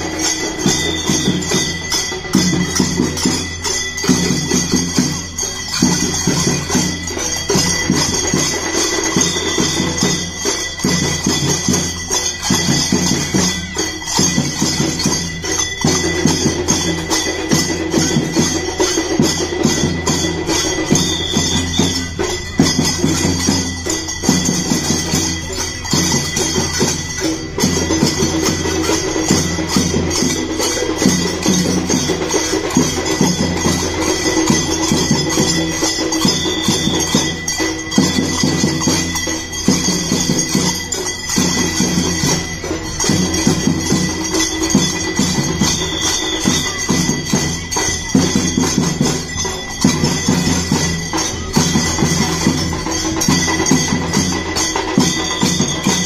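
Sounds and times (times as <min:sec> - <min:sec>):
hand cymbals clashing and jingling: 0:00.0 - 0:56.0.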